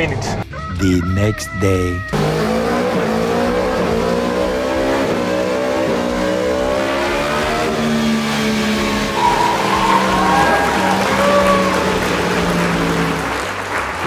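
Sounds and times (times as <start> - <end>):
motorcycle engine revving: 2.1 - 14.0.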